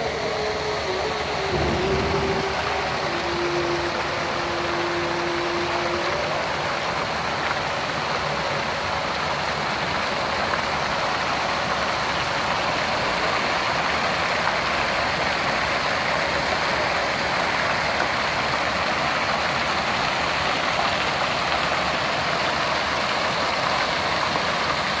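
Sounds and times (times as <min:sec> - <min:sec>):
fountain jets splashing into water: 0:00.0 - 0:25.0.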